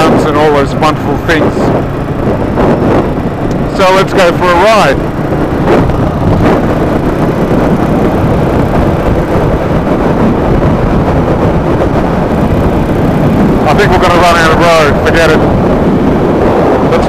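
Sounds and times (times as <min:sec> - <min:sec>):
motorcycle engine running: 0:00.0 - 0:17.0
rush of wind and road noise: 0:00.0 - 0:17.0.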